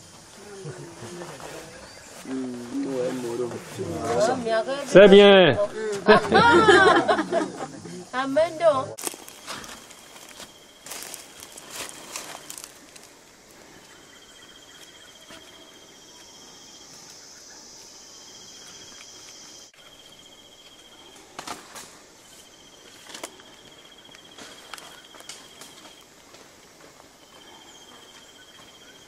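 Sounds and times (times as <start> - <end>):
high steady insect buzz: 0.0 - 29.0
insects trilling: 0.0 - 29.0.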